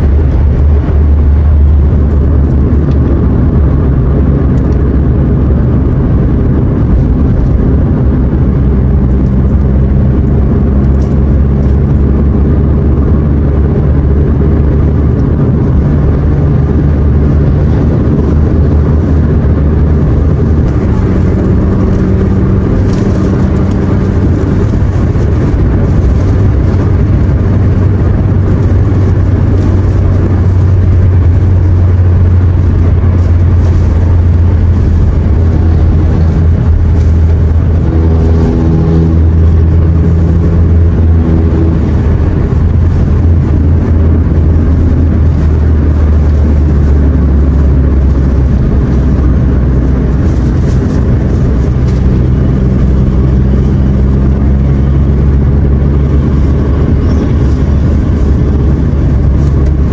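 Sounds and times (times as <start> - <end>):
car cabin road and engine drone: 0.0 - 59.9.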